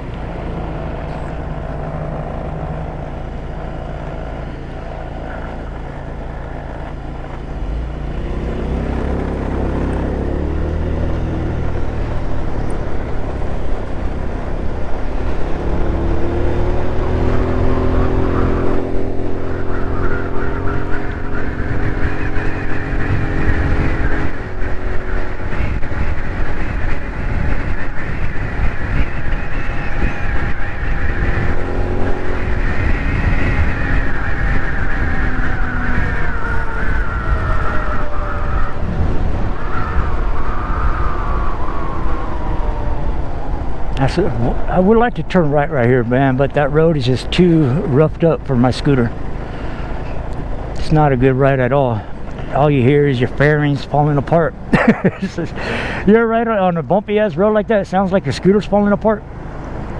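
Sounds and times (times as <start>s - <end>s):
scooter engine accelerating: 0.0s - 56.7s
wind rumble on microphone: 0.0s - 59.9s.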